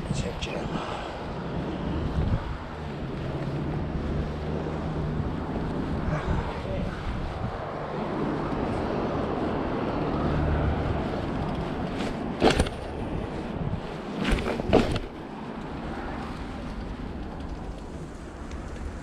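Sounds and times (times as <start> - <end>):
wind on microphone: 0.0 - 19.0
bike rolling over concrete: 1.3 - 19.0.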